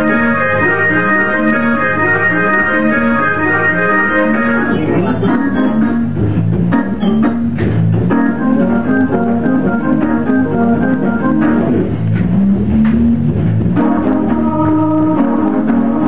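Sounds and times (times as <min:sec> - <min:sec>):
gospel organ chords: 0:00.0 - 0:16.0
organ bass line: 0:00.0 - 0:16.0.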